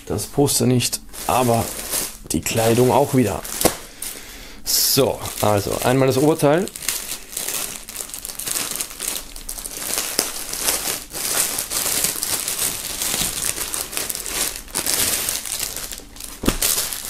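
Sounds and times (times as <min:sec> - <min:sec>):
plastic bag crinkling: 0:01.0 - 0:17.0.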